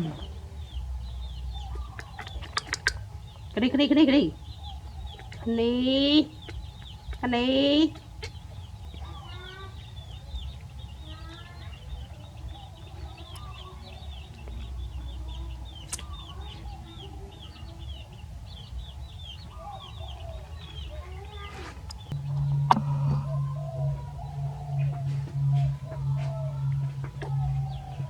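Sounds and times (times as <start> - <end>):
chickens clucking: 0.0 - 28.0
steady low rumble: 0.0 - 28.0.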